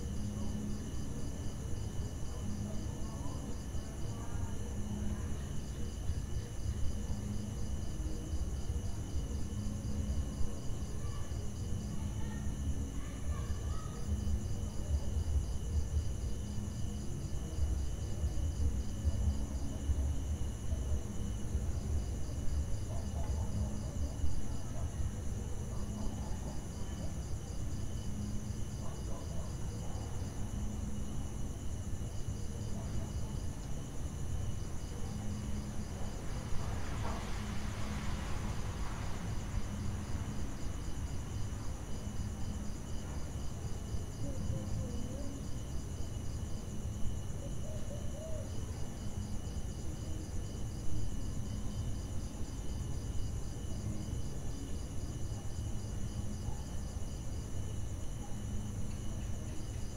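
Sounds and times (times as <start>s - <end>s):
crickets trilling: 0.0s - 59.9s
rapid cricket chirping: 0.0s - 59.9s.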